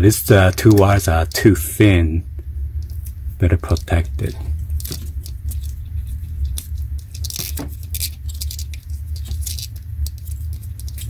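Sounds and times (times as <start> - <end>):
electrical tape crackling: 0.0 - 11.0
steady low hum: 0.0 - 11.0.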